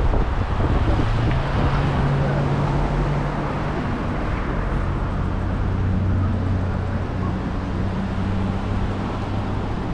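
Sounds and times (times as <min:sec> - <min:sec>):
road and wind noise: 0:00.0 - 0:09.9
vehicle engine drone: 0:00.0 - 0:09.9.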